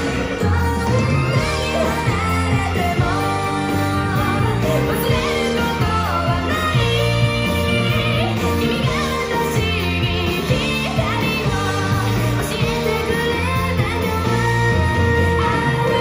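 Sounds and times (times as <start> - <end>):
pop-rock song with female singing: 0.0 - 16.0.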